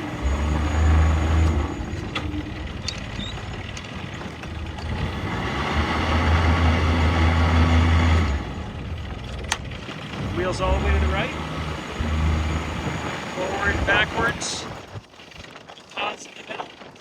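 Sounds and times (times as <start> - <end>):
boat engine throttling: 0.0 - 17.0.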